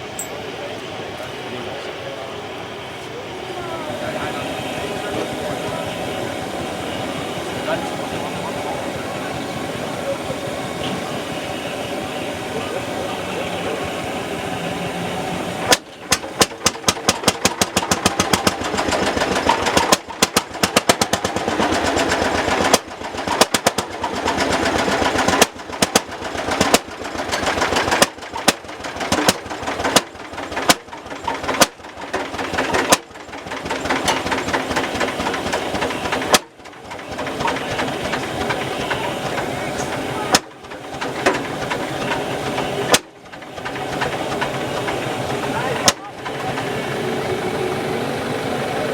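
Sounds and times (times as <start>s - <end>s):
tractor engine exhaust beats: 0.0s - 48.9s.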